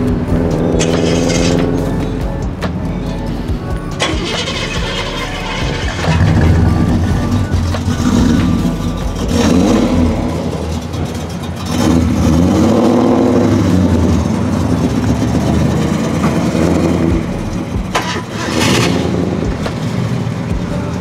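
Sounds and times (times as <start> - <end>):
car engine rumbling and revving: 0.0 - 21.0.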